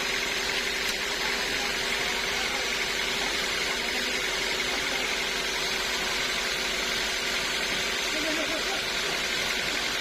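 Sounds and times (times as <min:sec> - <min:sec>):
sawmill machinery humming: 0:00.0 - 0:10.0.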